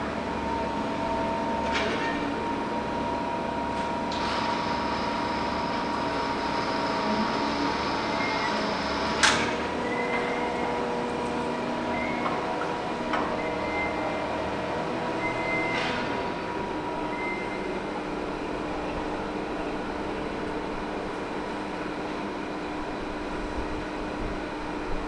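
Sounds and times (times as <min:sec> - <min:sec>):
heavy machinery humming: 0:00.0 - 0:25.0.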